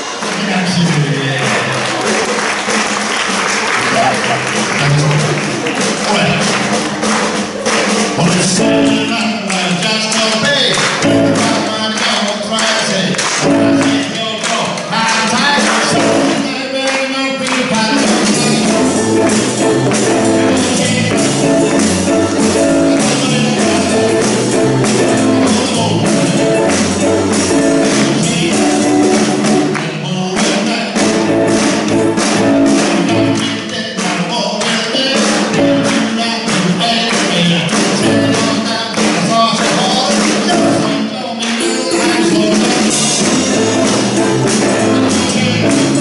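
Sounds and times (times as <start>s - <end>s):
keyboard: 0.0s - 37.0s, 37.8s - 46.0s
acoustic guitar: 0.0s - 46.0s
drums played with sticks: 0.0s - 46.0s
electric guitars: 0.0s - 46.0s
man singing: 3.8s - 6.8s, 7.9s - 46.0s.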